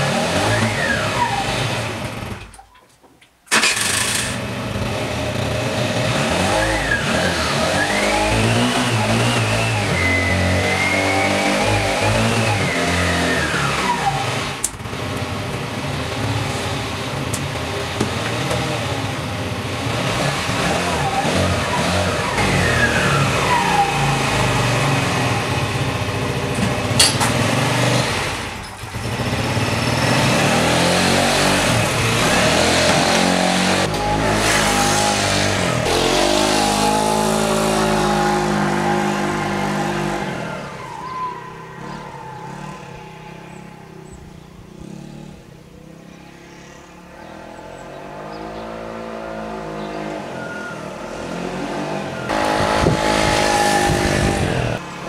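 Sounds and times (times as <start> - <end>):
scooter engine revving: 0.0 - 2.6, 3.5 - 46.5, 47.1 - 55.0.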